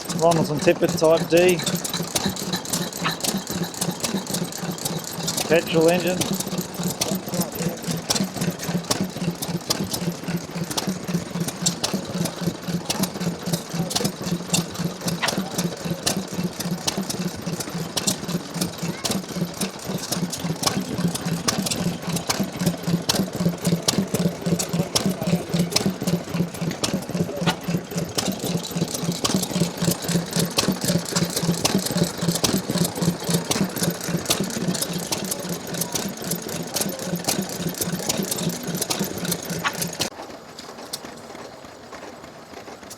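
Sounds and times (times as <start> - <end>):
stationary engine ticking and clattering: 0.0 - 42.9.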